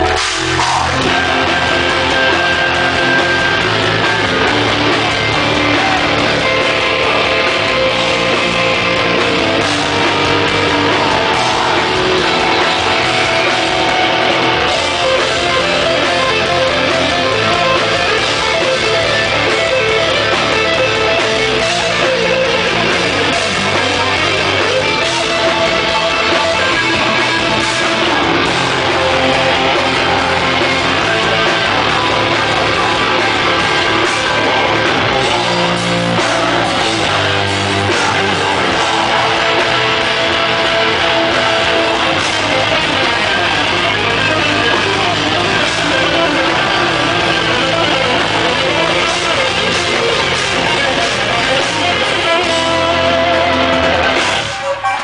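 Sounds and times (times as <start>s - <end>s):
electric guitars: 0.0s - 55.0s
live rock band playing: 0.0s - 55.0s.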